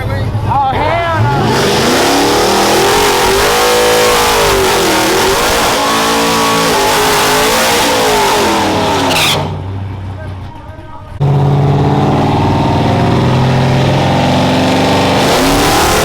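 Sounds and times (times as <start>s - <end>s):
car engine revving hard: 0.8s - 9.7s, 11.2s - 16.0s.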